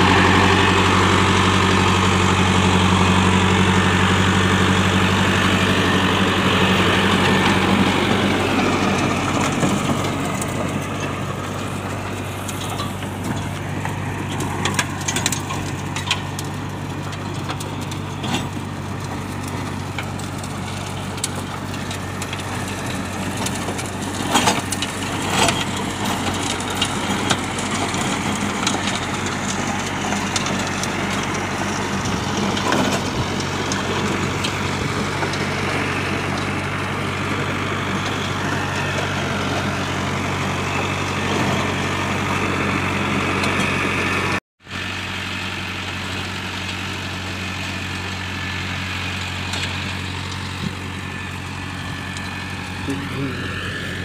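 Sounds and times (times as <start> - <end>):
rotavator churning soil: 0.0 - 54.0
tractor diesel engine under load: 0.0 - 54.0.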